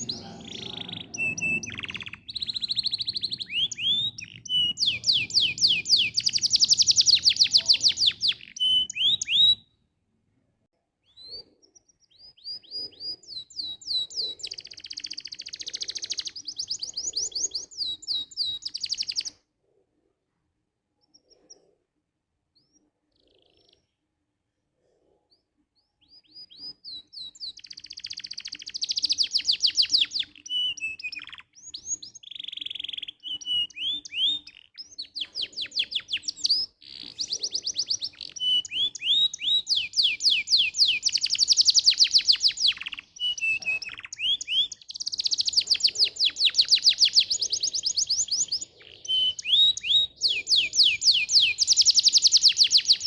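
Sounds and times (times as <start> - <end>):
canary singing trills: 0.0 - 9.8, 11.0 - 19.4, 25.3 - 53.0.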